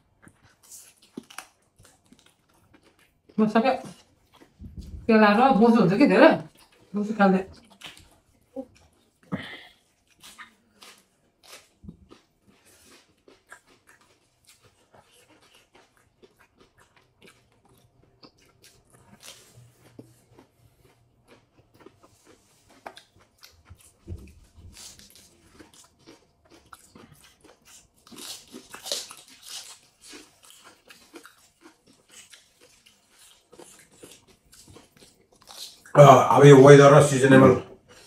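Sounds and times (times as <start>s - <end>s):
chewing and biting: 0.0s - 5.0s, 6.5s - 36.0s, 37.3s - 38.0s
lettuce crunching: 0.3s - 4.9s, 9.8s - 38.0s.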